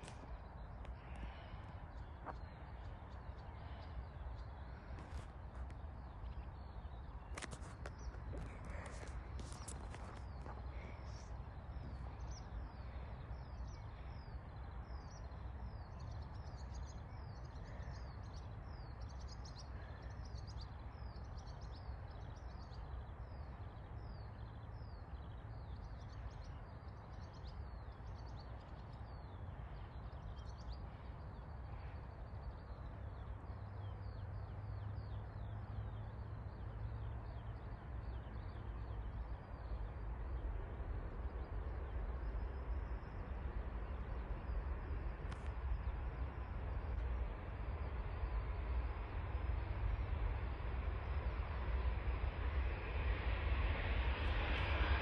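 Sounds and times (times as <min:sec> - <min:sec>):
songbird singing: 0:00.0 - 0:55.0
steady low rumble: 0:00.0 - 0:55.0.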